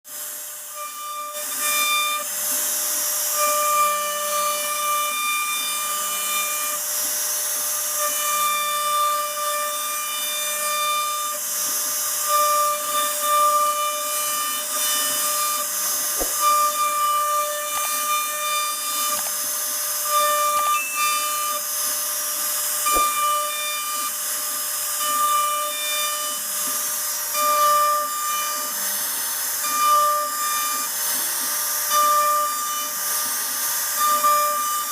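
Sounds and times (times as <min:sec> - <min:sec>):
router spindle hissing: 0:00.1 - 0:34.9.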